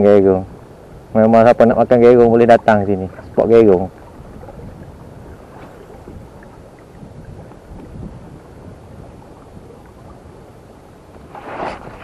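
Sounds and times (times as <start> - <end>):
water lapping around kayak: 0.0 - 12.0
wind rumble on microphone: 0.0 - 12.0.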